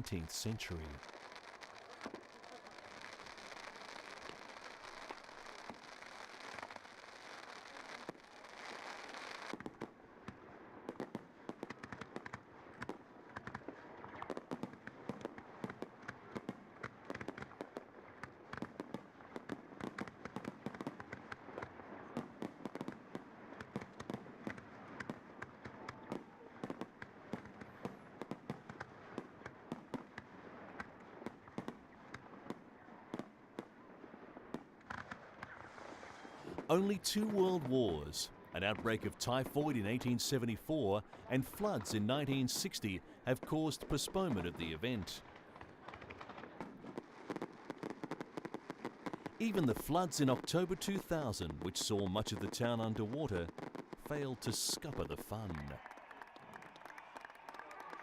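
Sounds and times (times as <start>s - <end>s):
fireworks and firecrackers: 0.0s - 58.0s.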